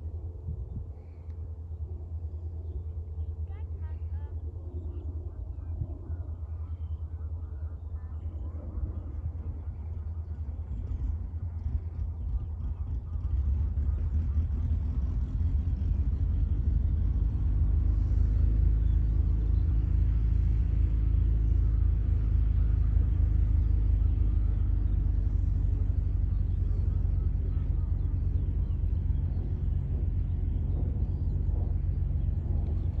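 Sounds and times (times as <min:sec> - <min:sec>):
light aircraft engine drone: 0:00.0 - 0:33.0
low rumble: 0:00.0 - 0:33.0.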